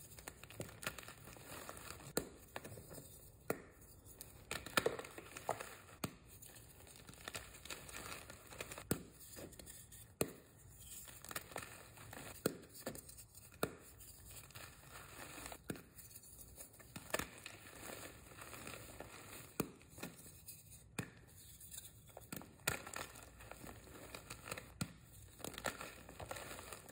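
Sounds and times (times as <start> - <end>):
chalk crumbling in hands: 4.0 - 26.9.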